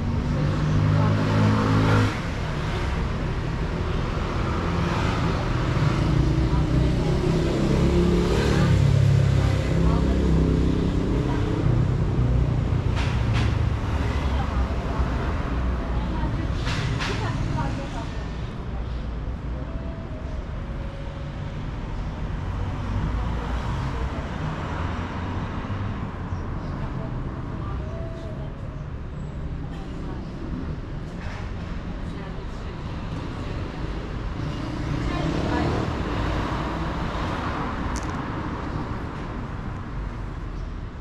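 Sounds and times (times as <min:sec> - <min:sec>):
street traffic noise: 0:00.0 - 0:41.0.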